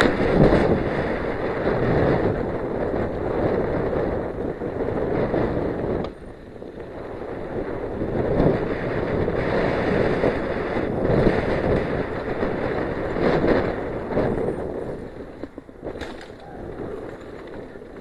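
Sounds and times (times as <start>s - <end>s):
bike tyres crunching on dirt: 0.0s - 18.0s
wind buffeting microphone: 0.0s - 18.0s.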